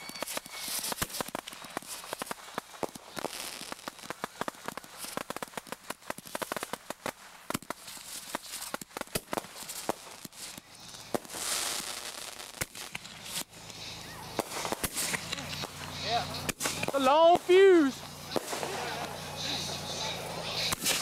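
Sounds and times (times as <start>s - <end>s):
fireworks crackling pops: 0.0s - 21.0s
fireworks hissing: 0.0s - 21.0s.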